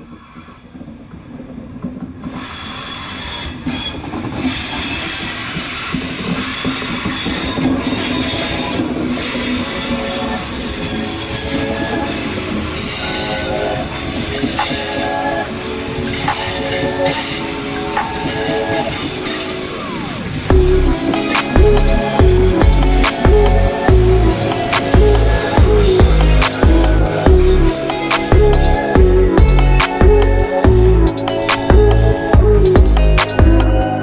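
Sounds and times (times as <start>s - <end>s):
train rumbling on rails: 0.0s - 34.0s
metallic wheel squealing: 2.3s - 34.0s.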